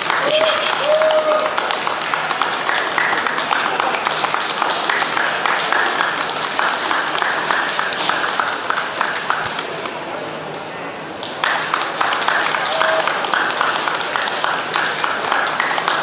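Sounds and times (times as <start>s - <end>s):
hand-clapping: 0.0s - 10.6s, 11.2s - 16.0s
crowd talking: 0.0s - 16.0s.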